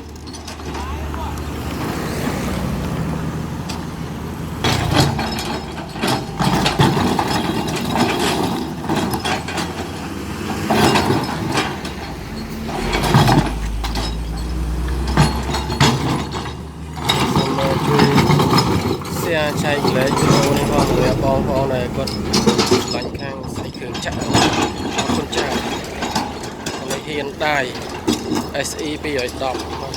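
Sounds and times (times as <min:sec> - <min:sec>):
excavator diesel engine running: 0:00.0 - 0:29.9
rock clattering: 0:03.6 - 0:29.9.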